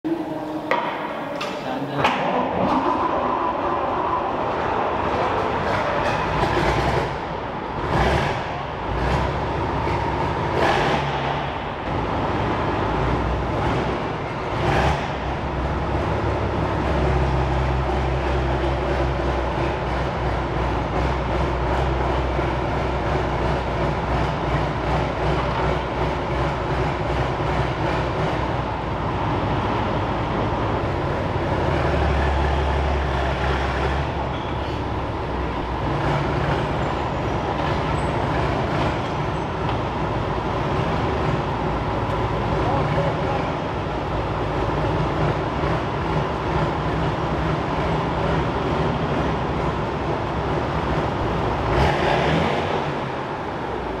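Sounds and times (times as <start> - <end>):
tank engine drone: 0.0 - 54.0.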